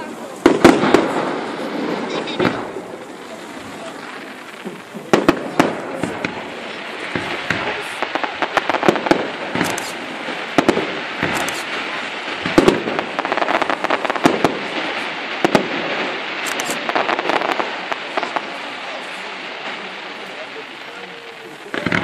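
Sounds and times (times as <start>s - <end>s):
fireworks shells bursting: 0.0s - 18.6s
fireworks crackling: 0.0s - 22.0s.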